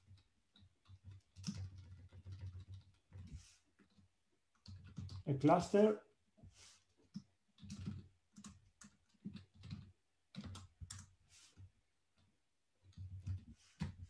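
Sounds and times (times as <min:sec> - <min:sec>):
faint keyboard typing: 0:00.0 - 0:05.8, 0:06.8 - 0:14.0.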